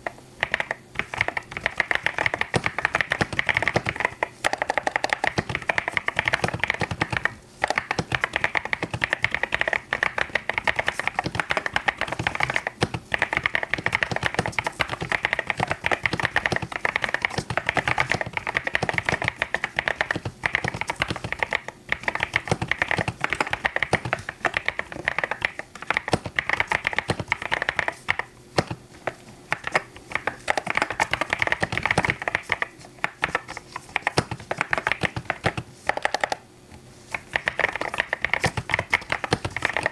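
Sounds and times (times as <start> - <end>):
mechanical keyboard typing: 0.0 - 36.4, 37.1 - 39.9.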